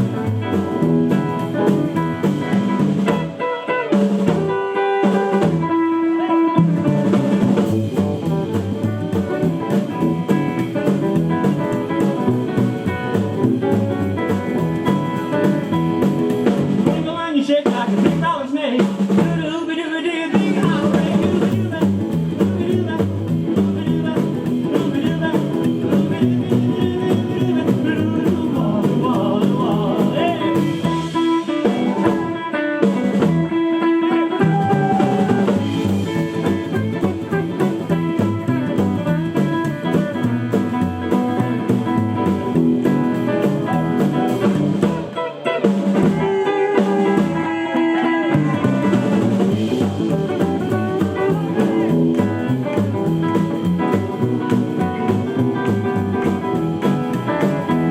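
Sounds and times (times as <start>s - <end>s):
electric guitar lead: 0.0s - 17.0s, 20.6s - 57.9s
drum kit: 0.0s - 19.7s, 20.3s - 57.9s.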